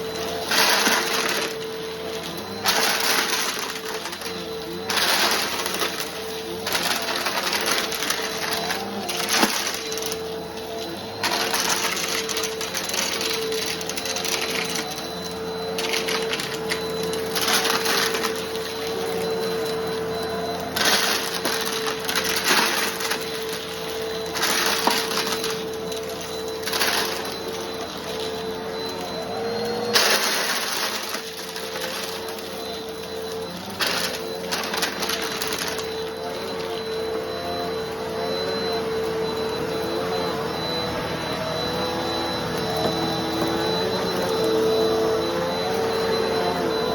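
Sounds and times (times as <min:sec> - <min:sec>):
vacuum motor whine: 0:00.0 - 0:46.9.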